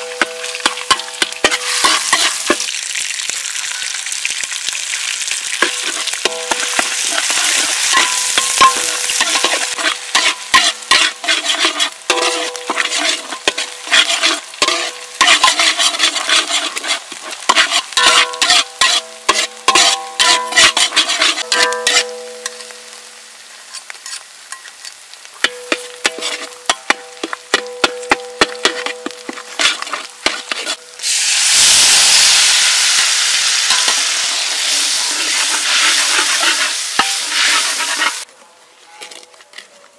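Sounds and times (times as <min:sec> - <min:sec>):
metal spatula scraping wok: 0:00.0 - 0:02.8, 0:05.5 - 0:23.0, 0:23.6 - 0:38.3
food frying in oil: 0:00.0 - 0:38.3
loud sizzle: 0:00.0 - 0:38.3.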